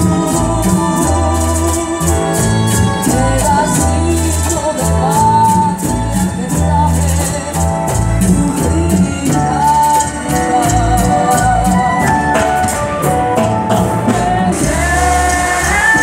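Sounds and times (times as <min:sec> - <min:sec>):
bowed strings melody: 0:00.0 - 0:16.0
shaker-like percussion beat: 0:00.0 - 0:16.0
sustained bass notes: 0:00.0 - 0:16.0.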